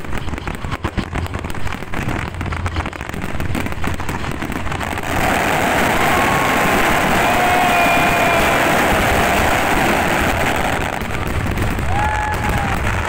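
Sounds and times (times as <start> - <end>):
fireworks crackling pops: 0.0 - 13.0
steady rushing noise: 0.0 - 13.0.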